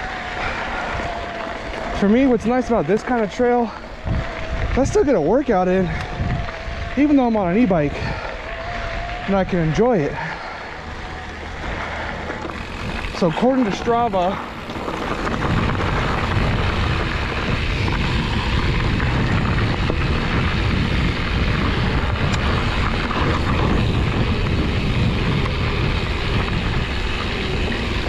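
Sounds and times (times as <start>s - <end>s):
bike tyres rolling on dirt trail: 0.0s - 28.0s
wind rumbling on microphone: 0.0s - 28.0s.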